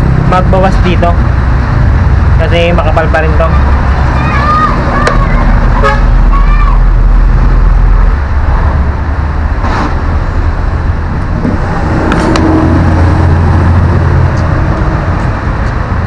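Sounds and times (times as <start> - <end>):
loud low rumble: 0.0 - 16.0.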